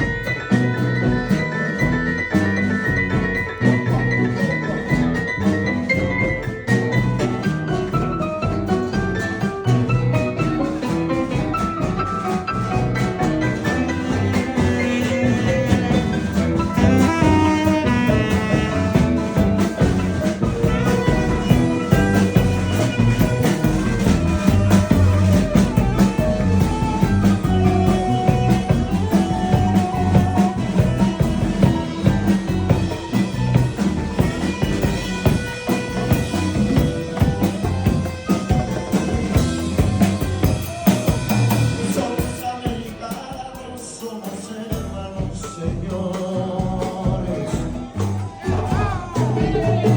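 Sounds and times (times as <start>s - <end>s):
drum kit beat: 0.0s - 49.9s
jazz melody instruments: 0.0s - 49.9s.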